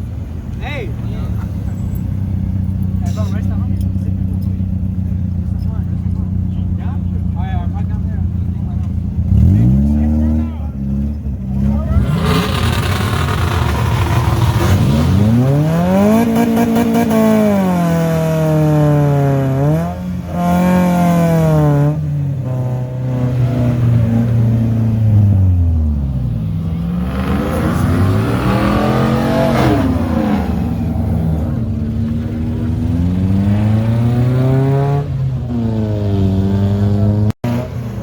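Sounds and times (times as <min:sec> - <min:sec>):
car engine revving: 0:01.0 - 0:38.0.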